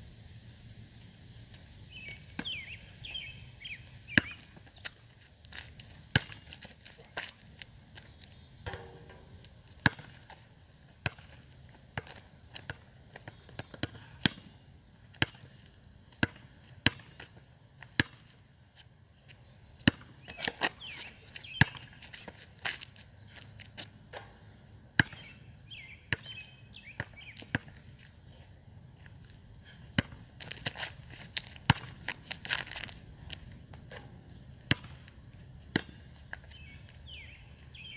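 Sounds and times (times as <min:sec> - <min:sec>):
basketball bouncing on asphalt: 0:01.9 - 0:03.3, 0:04.1 - 0:07.7, 0:08.6 - 0:18.4, 0:19.8 - 0:28.1, 0:28.9 - 0:37.9.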